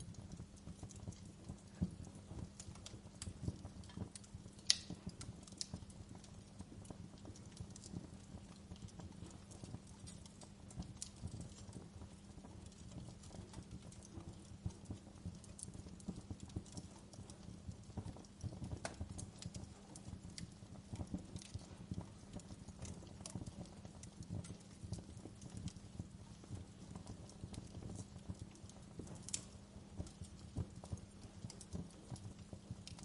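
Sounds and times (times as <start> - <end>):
fireplace fire crackling: 0.0 - 33.0.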